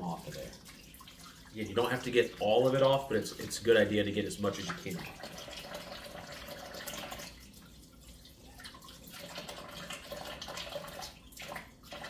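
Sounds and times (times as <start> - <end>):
faucet water splashing into sink: 0.0 - 12.0.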